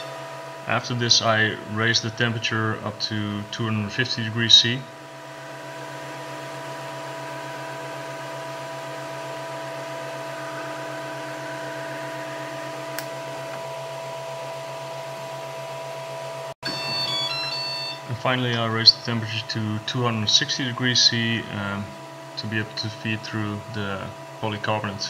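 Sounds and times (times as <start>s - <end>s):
printer motor and fan hum: 0.0s - 25.0s.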